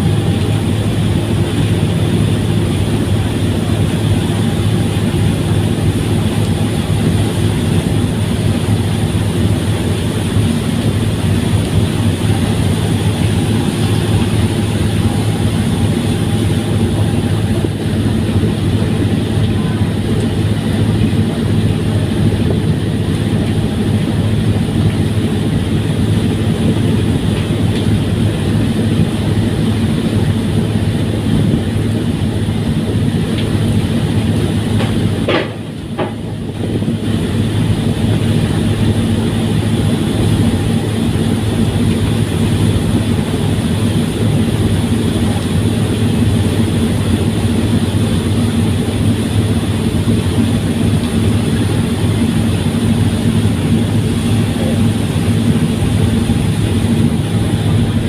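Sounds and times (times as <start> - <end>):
ferry engines droning: 0.0 - 58.0.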